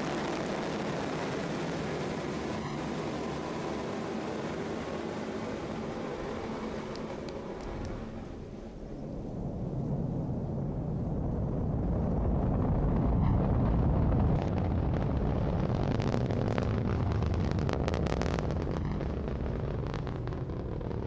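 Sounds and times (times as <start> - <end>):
rocket engine crackling: 0.0 - 21.0
rocket engine rumble: 0.0 - 21.0.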